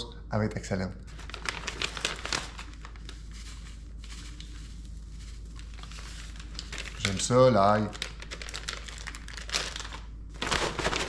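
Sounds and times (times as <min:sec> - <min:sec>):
plastic bag crinkling: 0:01.0 - 0:11.0
salt pouring from packet: 0:01.1 - 0:11.0.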